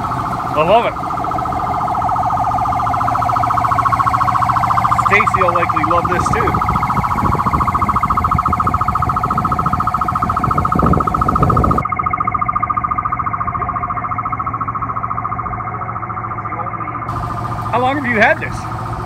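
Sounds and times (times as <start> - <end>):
electronic siren warble: 0.0 - 19.0.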